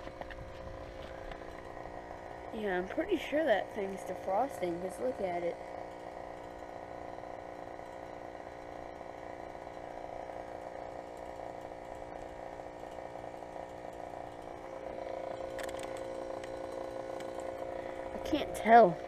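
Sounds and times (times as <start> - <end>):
heat pump humming: 0.0 - 19.0.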